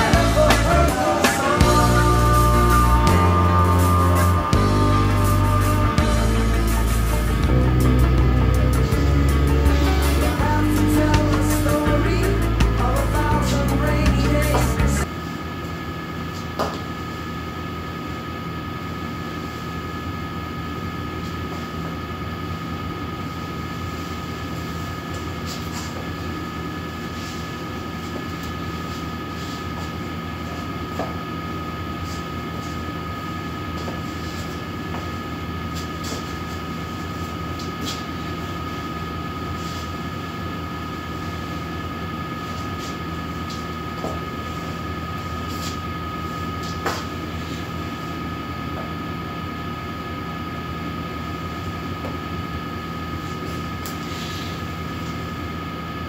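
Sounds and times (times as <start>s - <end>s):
mechanical drone with high whine: 0.0s - 56.0s.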